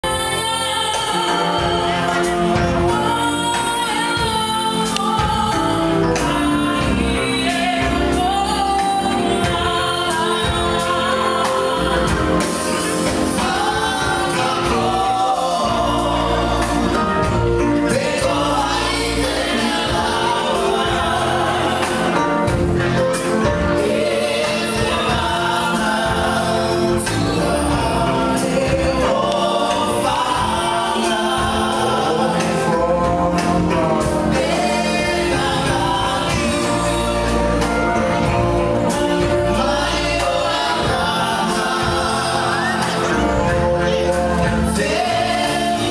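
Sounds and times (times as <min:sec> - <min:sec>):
group of voices singing: 0:00.0 - 0:45.9
steady bass: 0:00.0 - 0:45.9.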